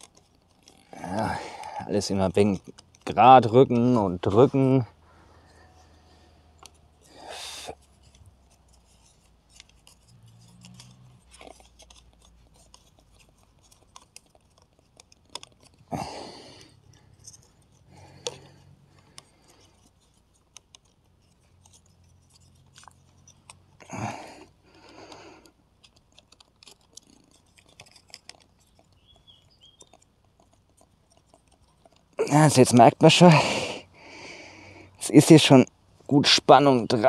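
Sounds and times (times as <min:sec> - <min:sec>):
wooden sticks clicking and creaking: 0:00.0 - 0:37.0.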